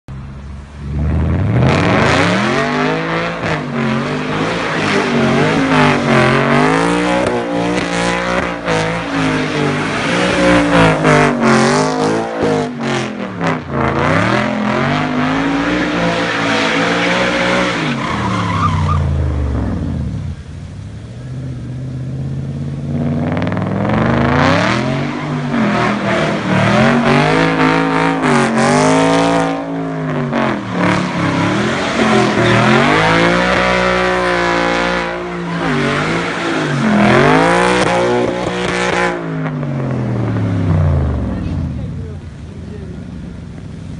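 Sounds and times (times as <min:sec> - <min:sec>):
car engine revving: 0:00.1 - 0:43.9
tyres skidding: 0:00.1 - 0:43.9.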